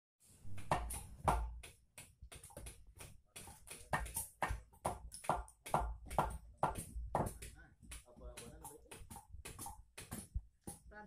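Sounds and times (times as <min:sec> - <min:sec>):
knives chopping on wood: 0:00.4 - 0:10.9.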